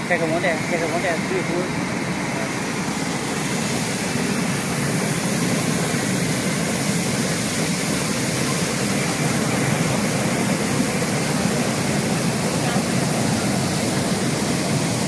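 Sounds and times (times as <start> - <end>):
water churning and bubbling: 0.0 - 15.0.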